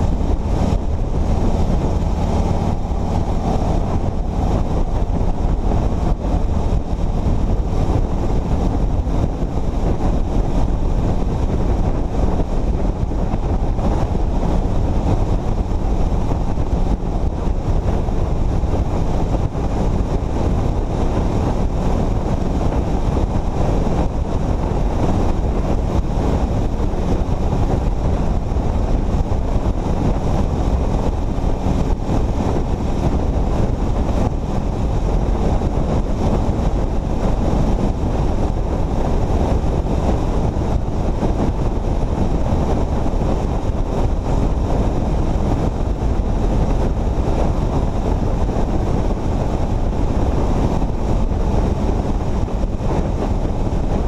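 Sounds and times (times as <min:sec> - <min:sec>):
vehicle tyres and engine rumble: 0:00.0 - 0:54.0
wind rush on microphone: 0:00.0 - 0:54.0.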